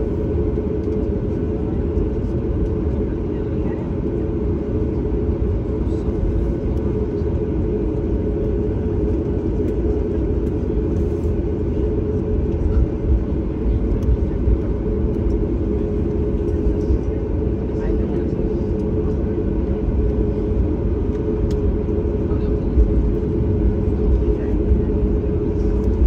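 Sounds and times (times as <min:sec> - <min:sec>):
aircraft engines idling: 0:00.0 - 0:26.0.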